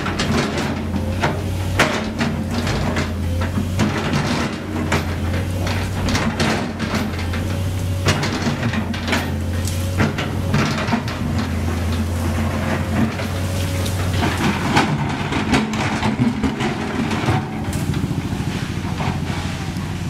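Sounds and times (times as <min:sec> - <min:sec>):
bucket scraping on asphalt: 0:00.0 - 0:20.0
excavator diesel engine hum: 0:00.0 - 0:20.0.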